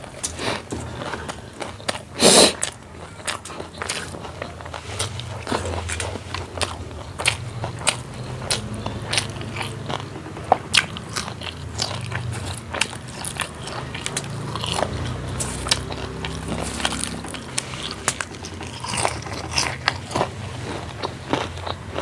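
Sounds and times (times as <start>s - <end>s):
person chewing and crunching food: 0.0s - 22.0s.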